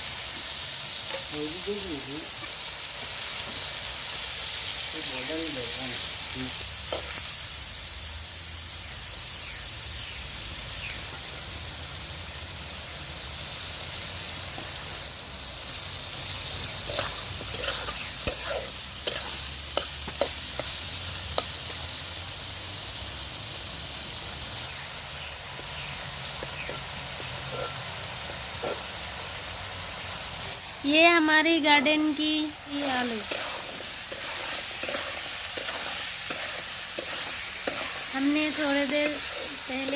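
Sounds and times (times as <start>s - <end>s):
hot oil sizzling in a pan: 0.0s - 39.9s.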